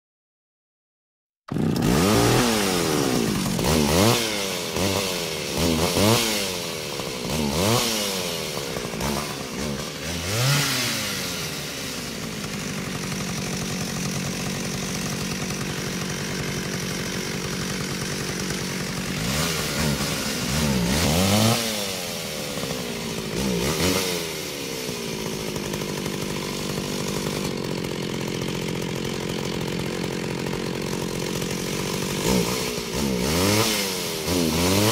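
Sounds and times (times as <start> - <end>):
chainsaw revving: 1.5 - 34.9.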